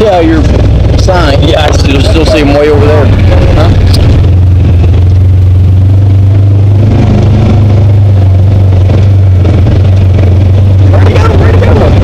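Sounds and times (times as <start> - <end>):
utv engine drone: 0.0 - 12.0.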